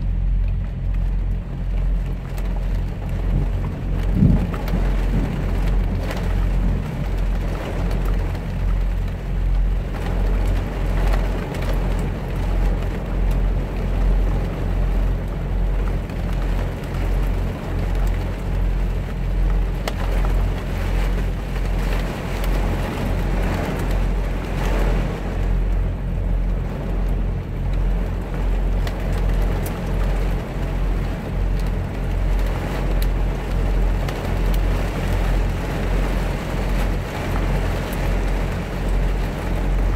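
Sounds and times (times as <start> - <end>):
rain on windshield: 0.0 - 39.9.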